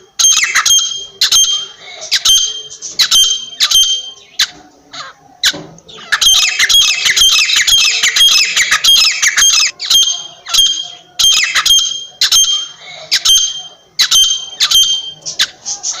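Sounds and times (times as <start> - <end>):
francolin calling: 0.0 - 16.0.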